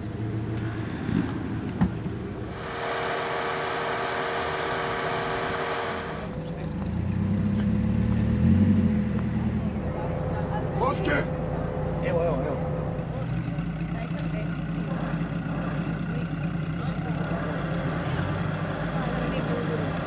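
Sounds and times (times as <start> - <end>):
deep engine note: 2.3 - 20.0.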